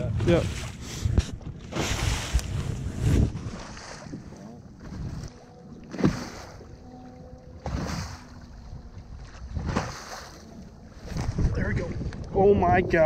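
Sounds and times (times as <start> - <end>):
waves slapping against boat: 0.0 - 13.0
wind buffeting microphone: 0.0 - 13.0.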